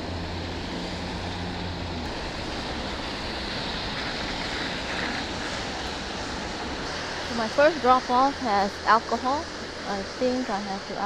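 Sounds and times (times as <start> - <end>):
low hum: 0.0 - 11.0
wind and rain on microphone: 0.0 - 11.0.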